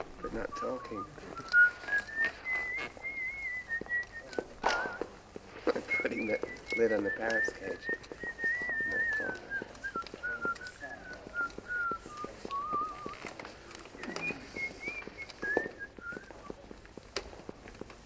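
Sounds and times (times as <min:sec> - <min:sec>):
person whistling slow tune: 0:00.4 - 0:05.1, 0:05.8 - 0:13.3, 0:14.0 - 0:16.6.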